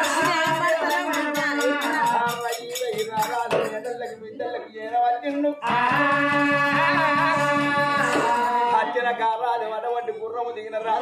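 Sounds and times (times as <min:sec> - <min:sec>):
folk singing: 0:00.0 - 0:10.1.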